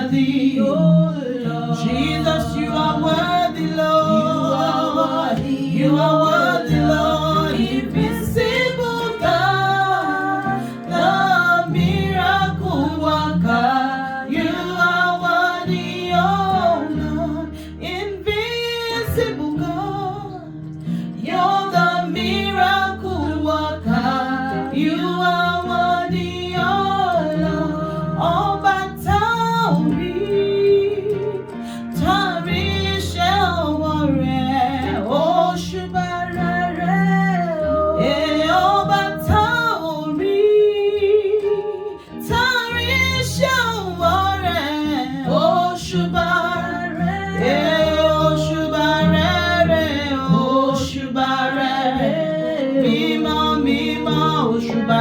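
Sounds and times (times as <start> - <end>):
woman singing: 0.0 - 55.0.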